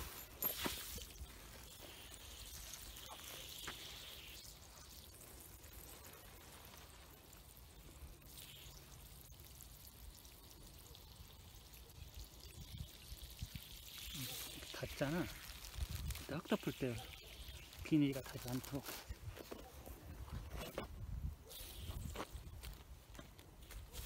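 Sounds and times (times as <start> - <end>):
water pouring into soil: 0.0 - 19.5, 20.1 - 24.0.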